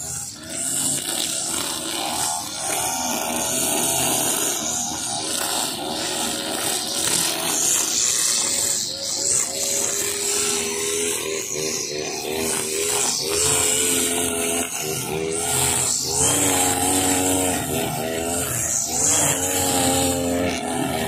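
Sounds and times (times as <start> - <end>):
brushcutter engine cutting grass: 0.0 - 21.0.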